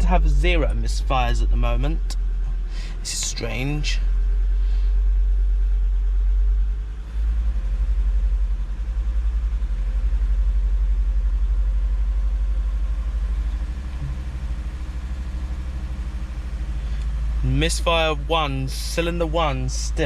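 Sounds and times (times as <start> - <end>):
car engine idling with misfire: 0.0 - 20.0.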